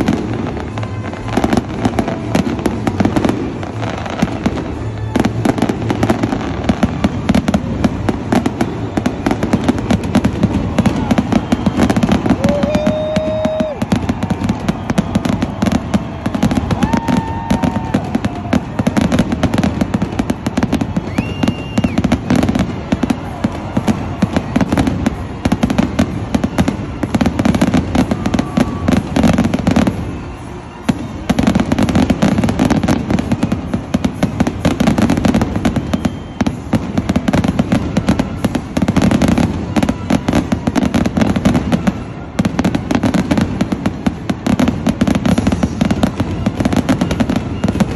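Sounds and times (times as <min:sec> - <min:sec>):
fireworks bursting and crackling: 0:00.0 - 0:47.9.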